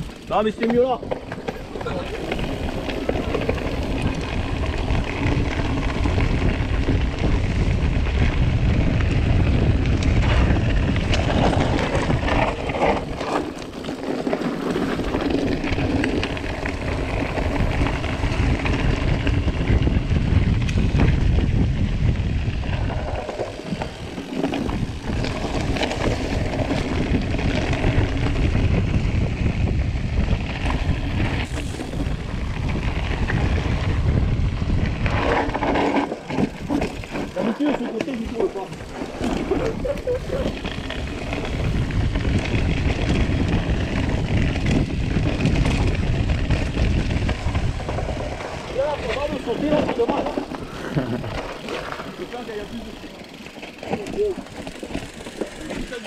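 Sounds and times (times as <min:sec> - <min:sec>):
bike rattling: 0:00.0 - 0:56.0
bike tyres on gravel trail: 0:00.0 - 0:56.0
wind buffeting microphone: 0:00.0 - 0:56.0.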